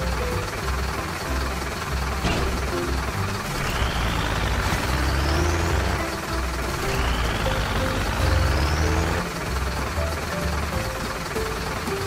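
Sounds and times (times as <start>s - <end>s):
cartoon excavator engine rumble: 0.0s - 12.0s.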